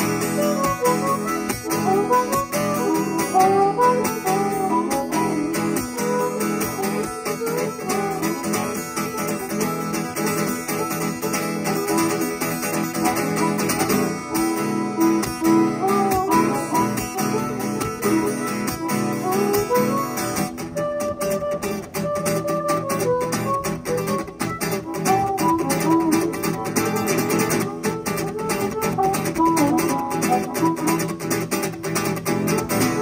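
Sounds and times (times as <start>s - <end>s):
acoustic guitar strumming: 0.0s - 33.0s
harmonica melody: 0.0s - 33.0s.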